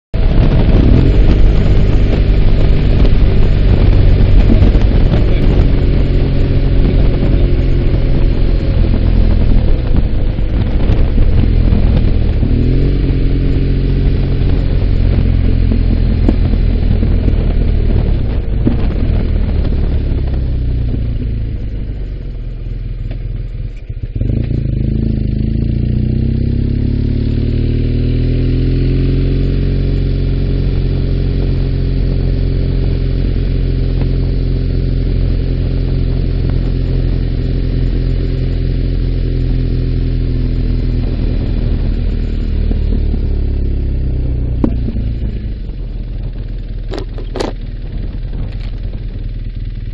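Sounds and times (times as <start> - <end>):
motorcycle engine revving: 0.2 - 49.9.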